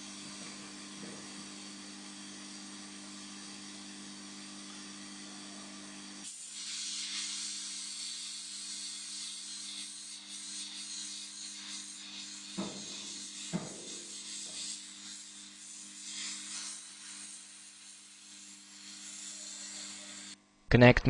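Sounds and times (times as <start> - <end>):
heat gun blowing hot air: 0.0 - 20.4.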